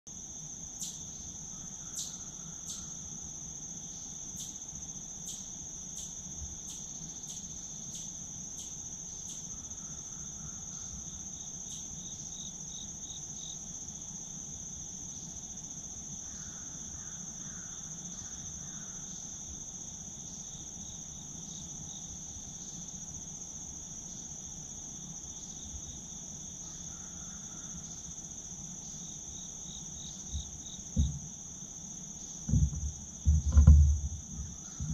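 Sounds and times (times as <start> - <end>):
insects chirping: 0.1 - 34.9
trilling insect: 0.1 - 34.9.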